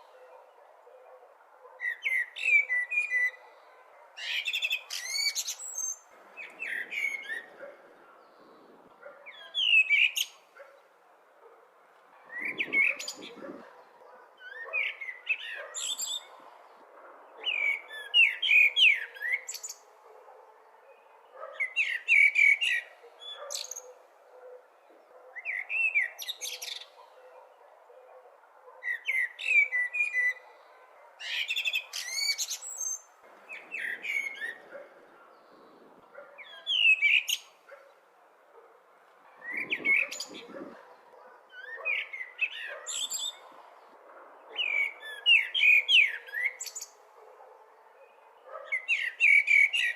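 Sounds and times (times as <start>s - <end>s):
blackbird singing: 0.0s - 10.9s, 12.2s - 16.5s, 17.3s - 38.0s, 39.4s - 43.6s, 44.4s - 49.9s.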